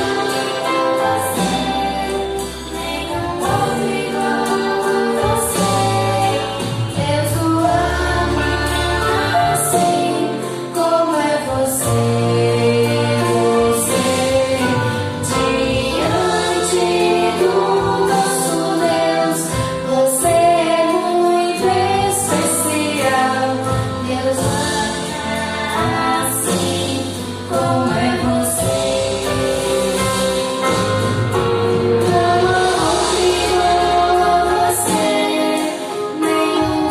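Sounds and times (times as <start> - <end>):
choir singing gospel: 0.0 - 36.9
instrumental backing with beat: 0.0 - 36.9.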